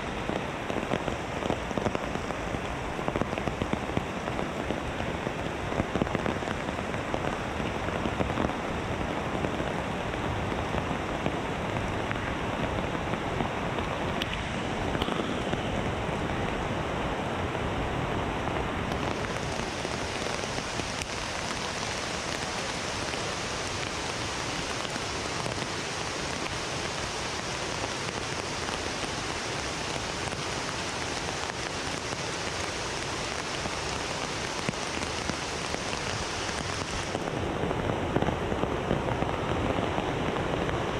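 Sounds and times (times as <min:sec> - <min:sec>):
heavy rain on foliage: 0:00.0 - 0:40.9.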